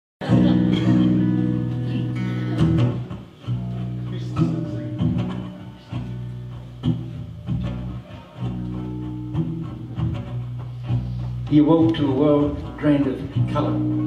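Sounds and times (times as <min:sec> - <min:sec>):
bass guitar: 0:00.2 - 0:14.0
folk band playing: 0:00.2 - 0:14.0
strummed acoustic guitars: 0:00.2 - 0:14.0.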